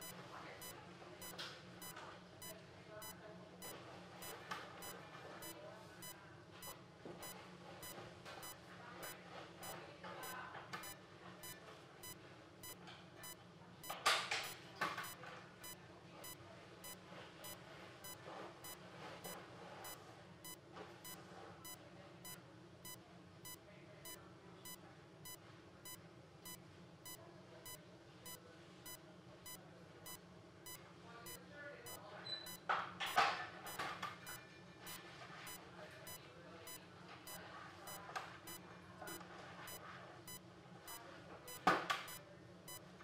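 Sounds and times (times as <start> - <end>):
patient monitor beeping: 0.0 - 43.0.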